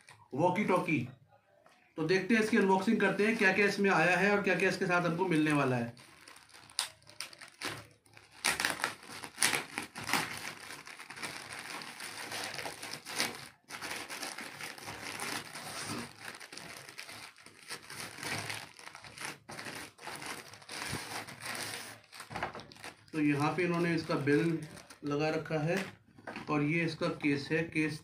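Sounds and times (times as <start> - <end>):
plastic bag crinkling: 2.5 - 25.9.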